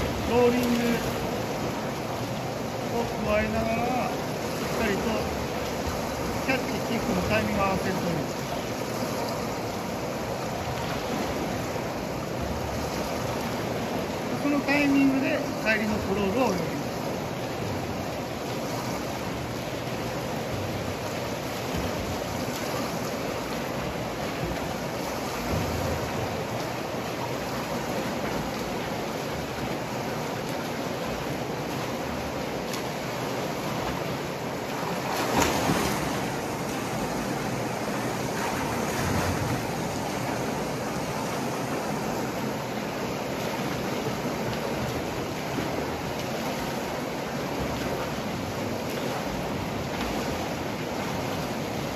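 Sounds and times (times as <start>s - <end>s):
swimmer splashing water: 0.0s - 51.9s.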